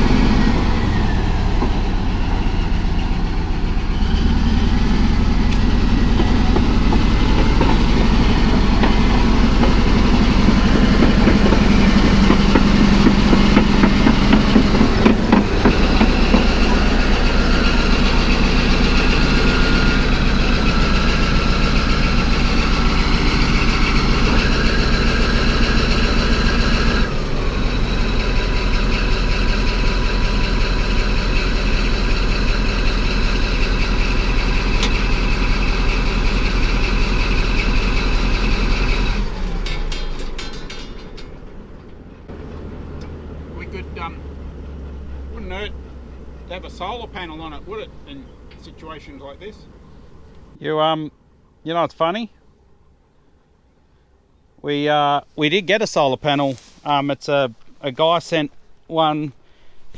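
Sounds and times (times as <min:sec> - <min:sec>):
bulldozer diesel engine: 0:00.0 - 0:50.6
steel tracks clattering: 0:00.0 - 0:50.6.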